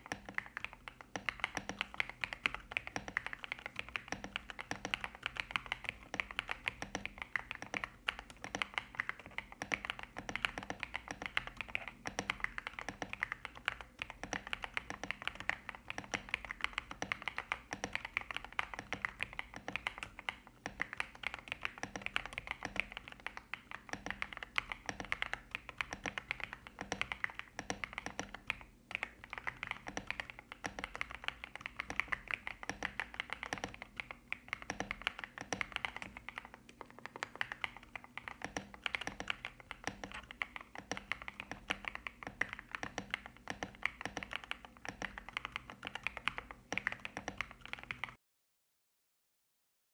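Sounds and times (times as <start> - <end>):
mechanical keyboard typing: 0.0 - 48.2.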